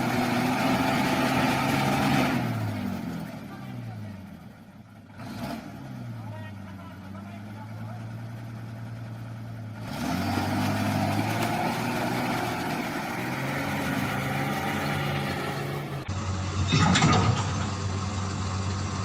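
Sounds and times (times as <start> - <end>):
vehicle engines running: 0.0 - 19.0.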